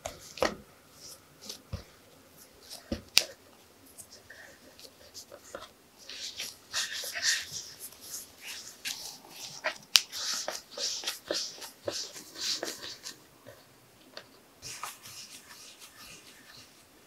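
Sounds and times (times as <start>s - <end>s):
hands rolling dough on board: 0.0s - 13.2s, 14.2s - 17.0s.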